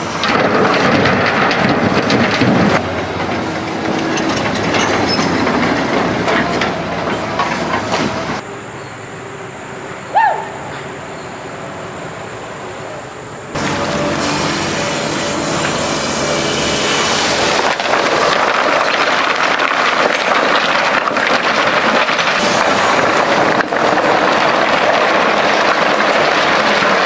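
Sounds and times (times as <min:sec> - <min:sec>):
excavator engine hum: 0:00.0 - 0:27.0.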